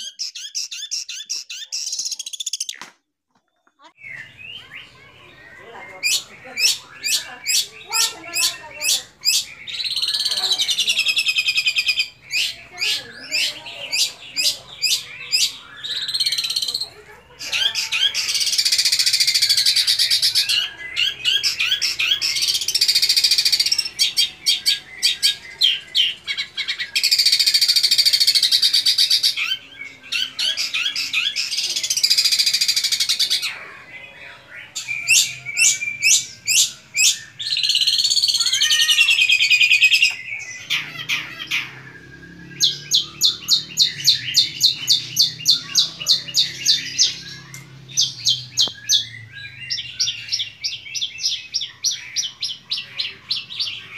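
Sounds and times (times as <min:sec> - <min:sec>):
bird singing varied song: 0:00.0 - 0:53.9.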